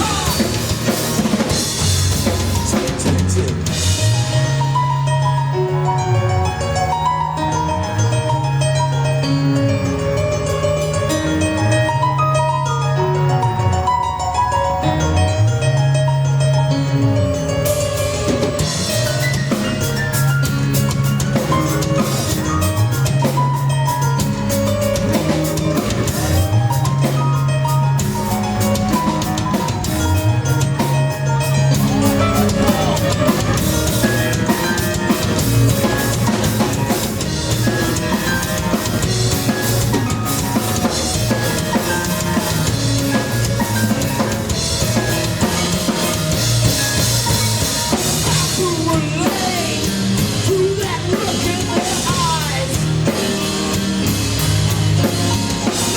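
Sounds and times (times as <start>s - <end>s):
drum kit: 0.0s - 12.6s, 16.8s - 55.9s
rock band playing: 0.0s - 55.9s
sliding bass line: 0.0s - 55.9s.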